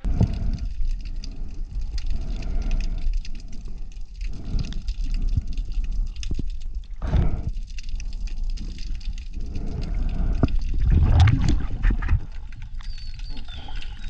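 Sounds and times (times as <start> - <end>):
faint crackle of clicks: 0.0 - 14.0
low rumble of moving water: 0.0 - 14.0
surges of water noise: 0.0 - 14.0.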